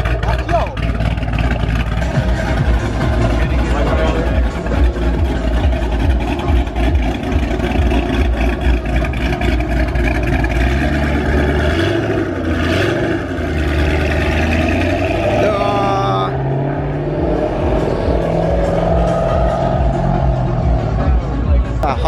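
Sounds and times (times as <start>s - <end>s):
car engine idling with lumpy lope: 0.0s - 22.0s.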